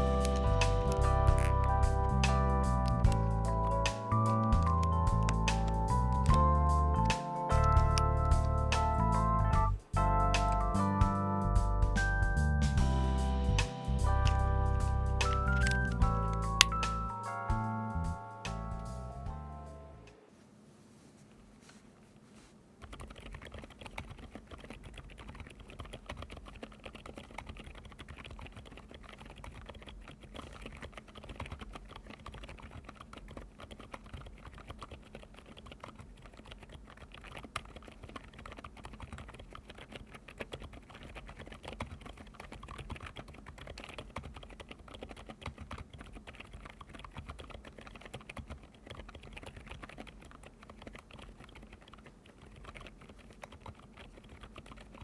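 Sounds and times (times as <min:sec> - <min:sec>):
muted mechanical keyboard typing: 0:00.0 - 0:09.7, 0:14.0 - 0:18.2, 0:22.8 - 0:55.0.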